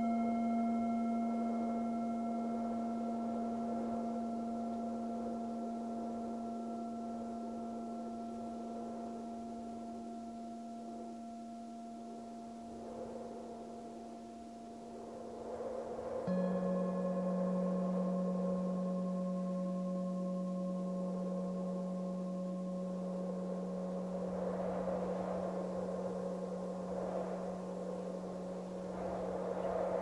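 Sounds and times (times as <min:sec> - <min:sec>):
singing bowl ringing: 0:00.0 - 0:30.0
soft wind-like hiss: 0:00.0 - 0:30.0.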